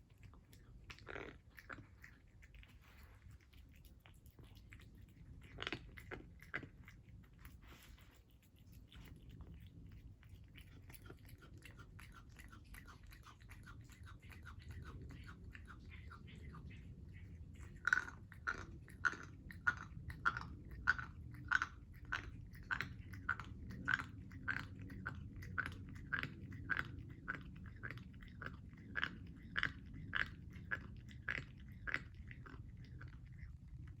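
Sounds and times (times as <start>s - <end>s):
pet chewing with crunching clicks: 0.0s - 34.0s.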